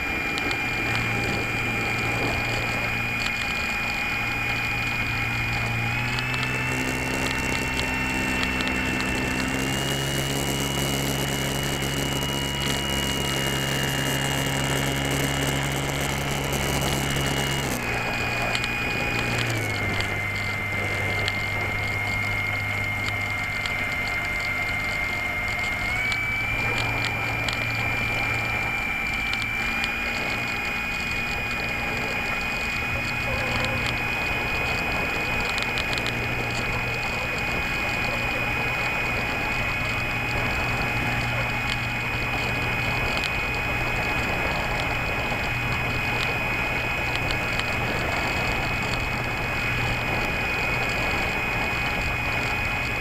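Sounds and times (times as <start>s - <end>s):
model plane motor whining: 0.0s - 53.0s.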